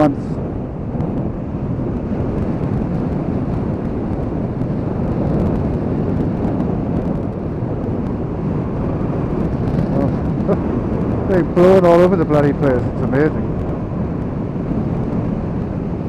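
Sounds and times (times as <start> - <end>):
motorcycle and road noise: 0.0 - 16.0
wind buffeting microphone: 0.0 - 16.0.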